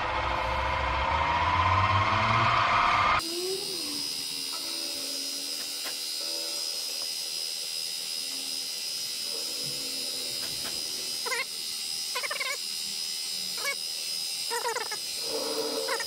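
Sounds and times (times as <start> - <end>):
high-pitched machine whine: 0.0 - 16.0.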